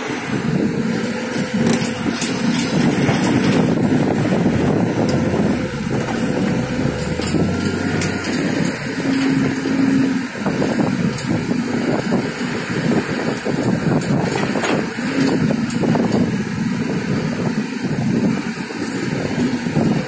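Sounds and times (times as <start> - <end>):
excavator diesel engine under load: 0.0 - 20.0.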